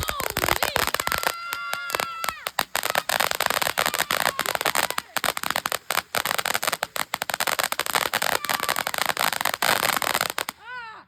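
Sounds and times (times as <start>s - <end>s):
fireworks crackling: 0.0s - 10.8s.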